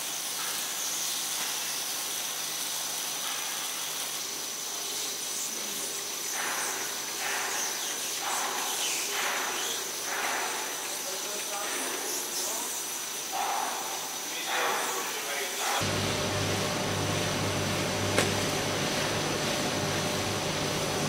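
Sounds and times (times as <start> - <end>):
laminating line hiss: 0.0 - 21.0.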